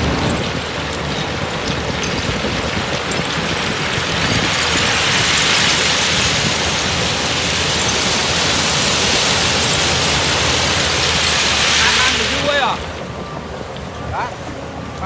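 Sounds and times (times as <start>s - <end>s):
bulldozer running: 0.0s - 15.0s.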